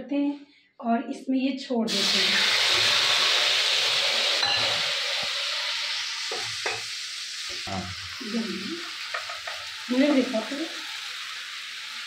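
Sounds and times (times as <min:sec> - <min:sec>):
paste sizzling in hot oil: 0:01.9 - 0:12.0.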